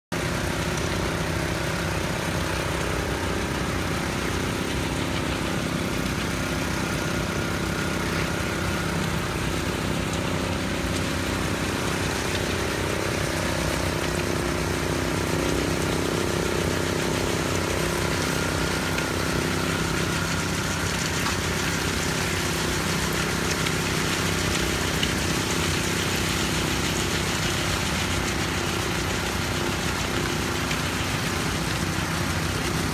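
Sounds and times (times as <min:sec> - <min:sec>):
construction site background noise: 0:00.1 - 0:32.9
engine running steadily: 0:00.1 - 0:32.9.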